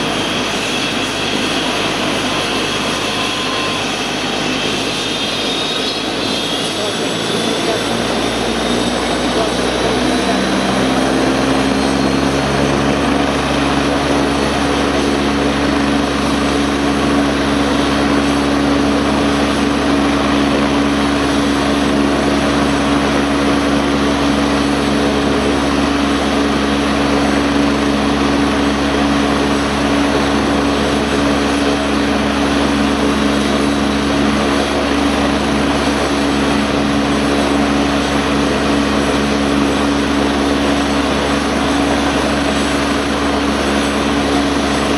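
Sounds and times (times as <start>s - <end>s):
helicopter turbine and rotor drone: 0.0s - 44.9s.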